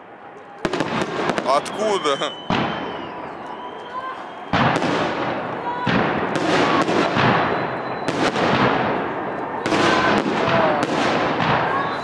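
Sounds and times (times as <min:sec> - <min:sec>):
fireworks crackling rumble: 0:00.6 - 0:03.5, 0:04.5 - 0:12.0.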